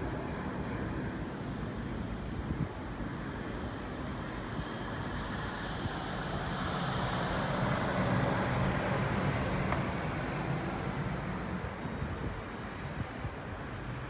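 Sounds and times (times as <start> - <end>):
wind rumbling and buffeting: 0.0 - 14.0.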